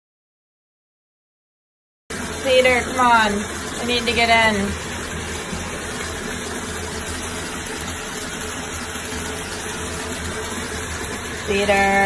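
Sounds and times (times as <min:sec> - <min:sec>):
water pouring into bathtub: 0:02.1 - 0:12.0.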